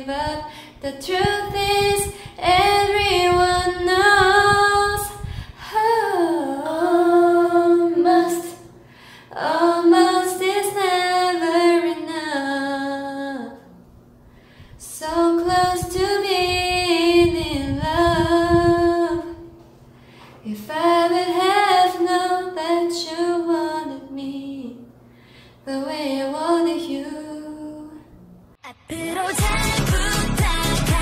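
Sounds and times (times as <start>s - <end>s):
woman singing unaccompanied: 0.0s - 8.7s, 9.3s - 13.7s, 14.8s - 19.6s, 20.4s - 24.9s, 25.6s - 28.1s, 28.7s - 31.0s.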